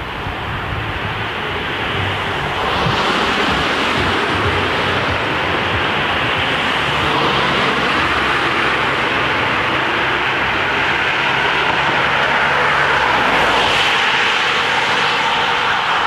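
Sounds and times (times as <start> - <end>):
road traffic engine hum: 0.0 - 16.0.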